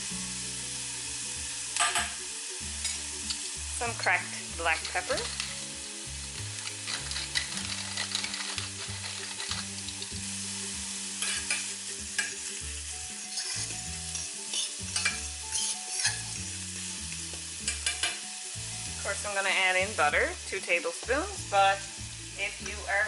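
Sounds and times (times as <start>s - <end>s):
onions sizzling in oil: 0.0s - 23.0s
pan being stirred: 1.1s - 23.0s.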